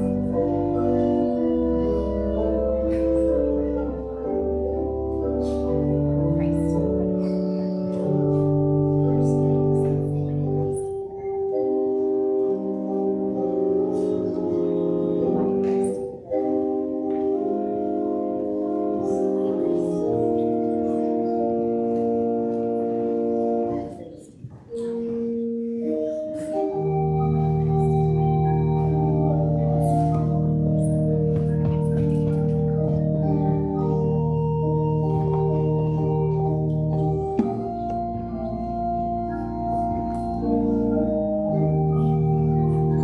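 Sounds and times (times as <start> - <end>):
organ playing sustained chords: 0.0 - 43.0.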